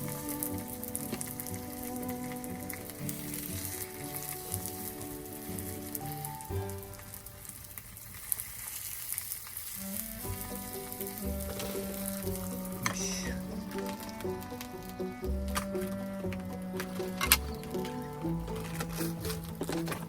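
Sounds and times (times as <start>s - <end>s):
background music: 0.0s - 8.0s, 9.8s - 20.0s.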